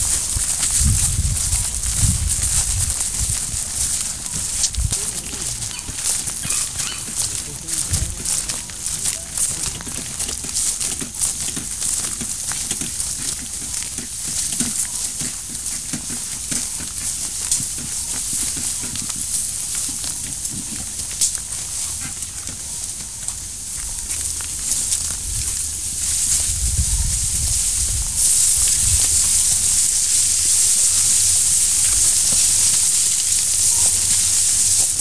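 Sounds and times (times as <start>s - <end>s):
footsteps rustling through grass: 0.0s - 35.0s
steady high-pitched hiss: 0.0s - 35.0s.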